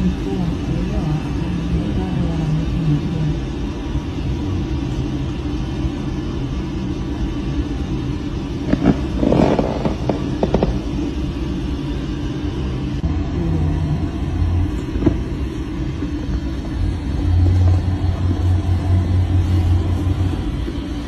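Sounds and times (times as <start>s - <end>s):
low machinery rumble and hum: 0.0s - 21.0s.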